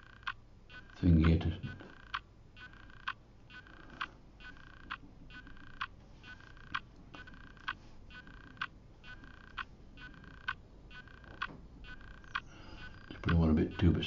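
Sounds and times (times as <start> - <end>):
buzzy chirp: 0.0 - 14.0.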